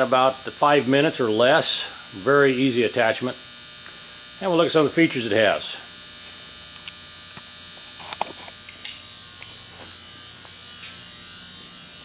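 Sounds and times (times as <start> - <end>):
high-pitched electrical buzz: 0.0 - 12.0.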